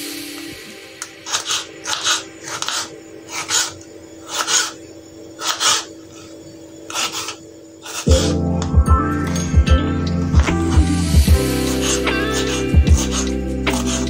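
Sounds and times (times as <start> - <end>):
music: 0.0 - 14.0.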